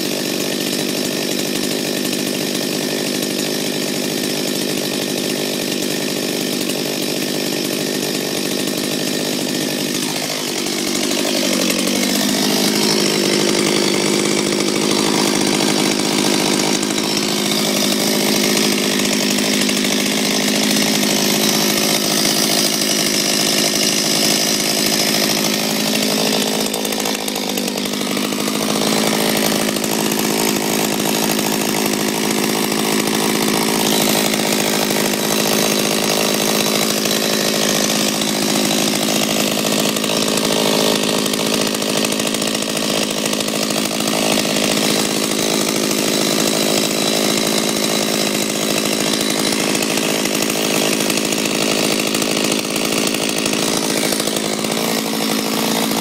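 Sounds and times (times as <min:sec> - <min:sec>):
chainsaw running: 0:00.0 - 0:56.0.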